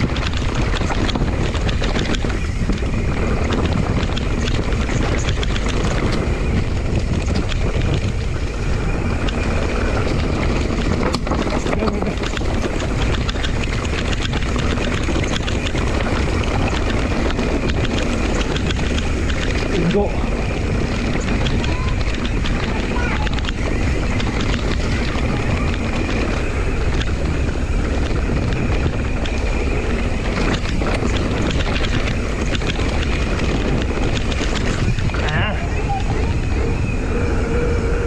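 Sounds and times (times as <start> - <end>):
bike rattling and knocking: 0.0 - 37.7
bike tyres rolling on rocky dirt: 0.0 - 38.0
wind on microphone: 0.0 - 38.0.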